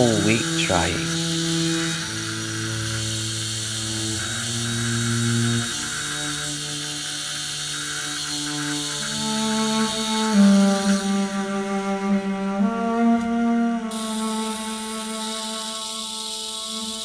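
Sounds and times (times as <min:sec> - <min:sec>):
slow background music: 0:00.0 - 0:07.6, 0:08.2 - 0:16.7.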